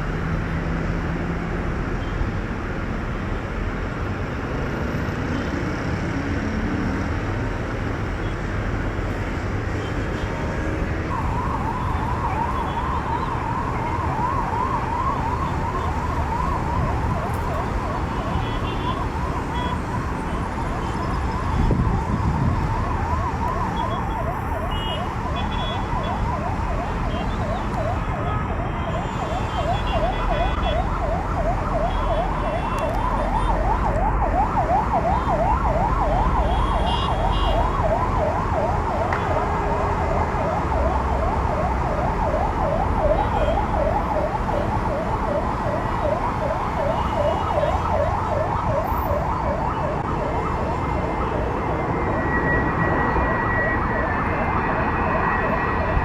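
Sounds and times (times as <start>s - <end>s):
low traffic rumble: 0.0s - 56.0s
siren yelping: 11.1s - 56.0s.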